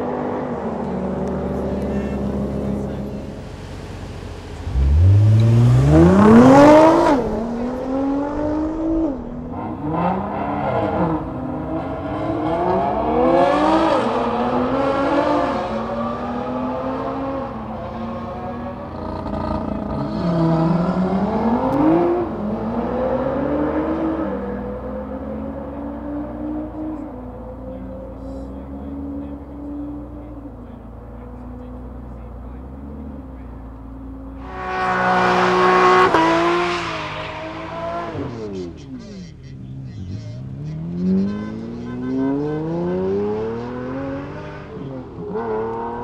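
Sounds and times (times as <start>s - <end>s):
sports car engine revving: 0.0s - 46.0s.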